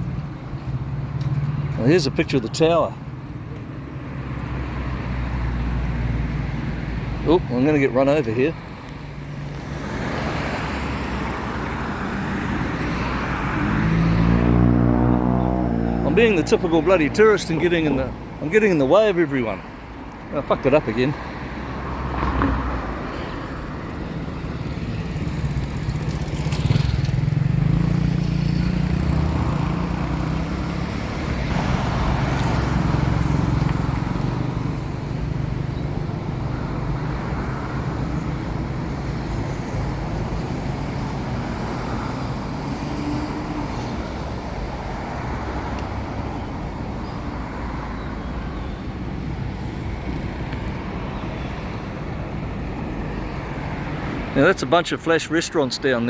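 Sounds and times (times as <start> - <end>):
road traffic hum: 0.0 - 56.0
vehicles passing close by: 0.0 - 56.0.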